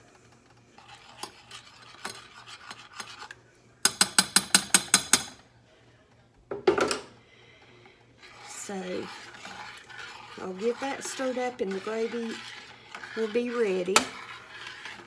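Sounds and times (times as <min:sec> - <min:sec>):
utensil stirring in saucepan: 0:00.0 - 0:06.2, 0:07.2 - 0:15.0.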